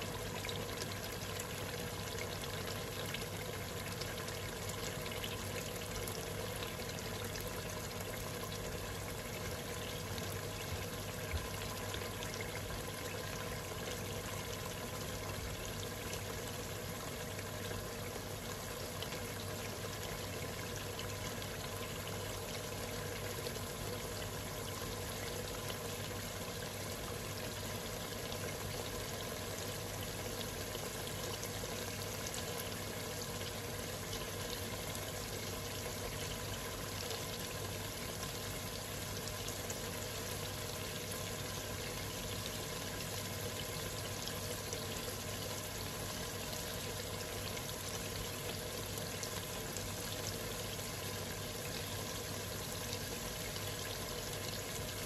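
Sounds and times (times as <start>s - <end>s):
meat frying in oil: 0.0s - 55.0s.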